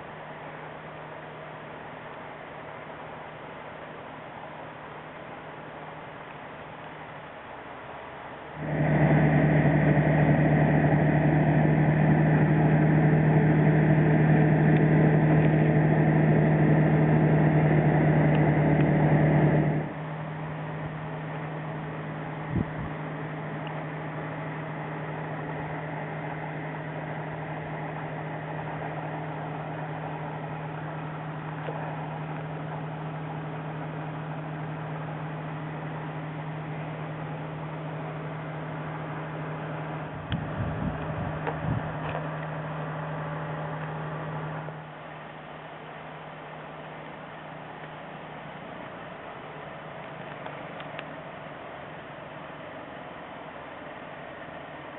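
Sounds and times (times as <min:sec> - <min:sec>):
heavy machine engine humming: 0:00.0 - 0:54.9.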